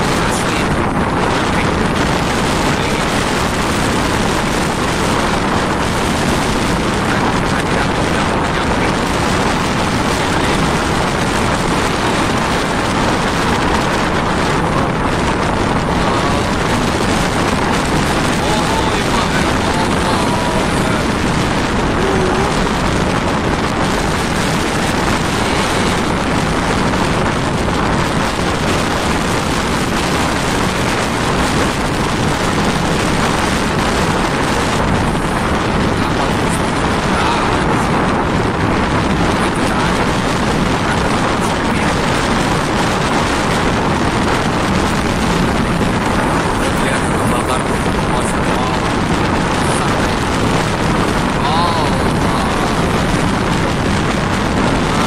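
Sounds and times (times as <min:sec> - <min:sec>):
choppy sea rushing: 0:00.0 - 0:55.0
wind buffeting microphone: 0:00.0 - 0:55.0.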